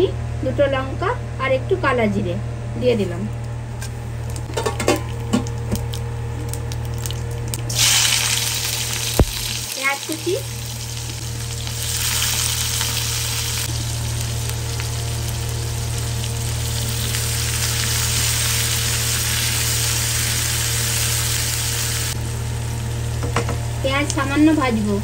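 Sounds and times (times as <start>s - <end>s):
low steady hum: 0.0s - 25.0s
onions sizzling in oil: 4.2s - 24.8s.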